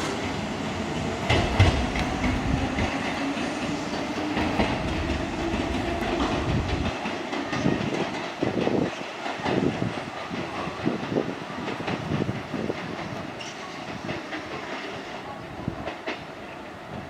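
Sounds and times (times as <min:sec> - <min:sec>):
train wheels clacking on rails: 0:00.0 - 0:17.0.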